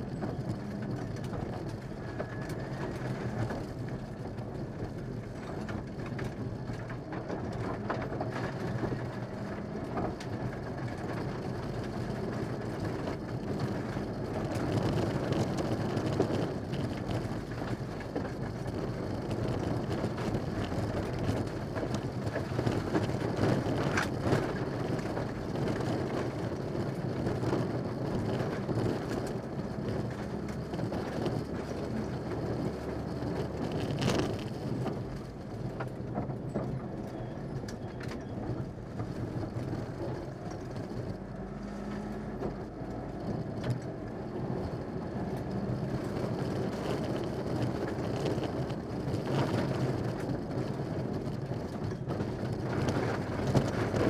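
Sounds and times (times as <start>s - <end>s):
gravel road noise: 0.0s - 54.0s
rally car engine under load: 0.0s - 54.0s.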